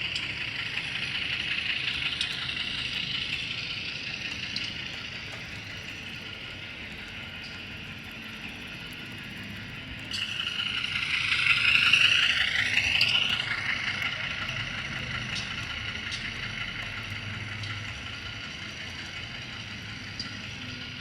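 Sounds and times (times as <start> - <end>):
model locomotive engine sound: 0.0 - 21.0.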